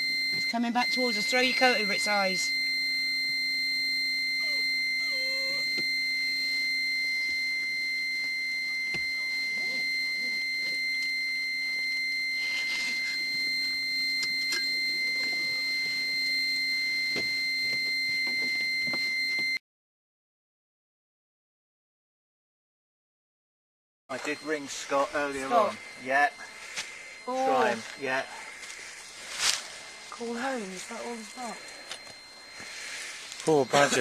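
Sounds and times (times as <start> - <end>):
high-pitched electronic warning tone: 0.0 - 19.6, 24.1 - 34.0.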